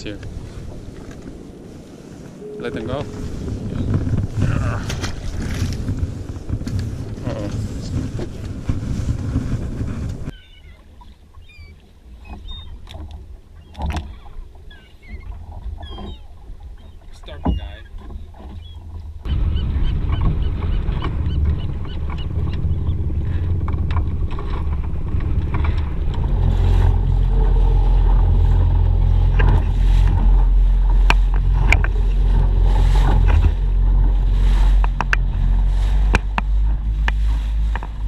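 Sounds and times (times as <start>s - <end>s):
motorboat engine rumble: 0.0s - 38.0s
water splashing against hull: 0.0s - 38.0s.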